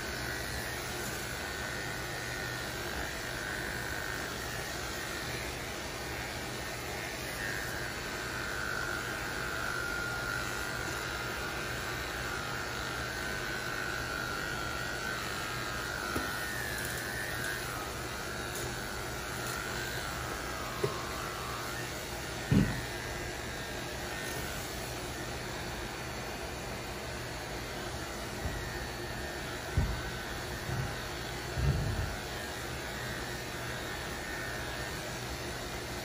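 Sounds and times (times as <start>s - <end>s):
electric clipper buzzing: 0.0s - 36.0s.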